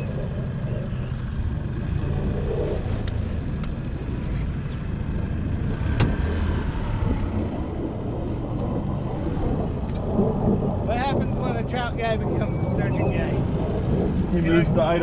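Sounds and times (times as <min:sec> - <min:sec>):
outboard motor running: 0:00.0 - 0:12.5
wind buffeting microphone: 0:00.0 - 0:15.0.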